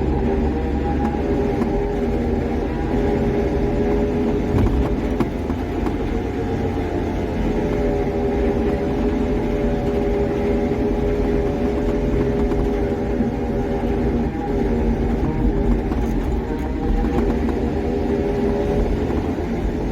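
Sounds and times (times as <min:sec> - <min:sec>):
road rumble: 0:00.0 - 0:19.9
truck engine running: 0:00.0 - 0:19.9.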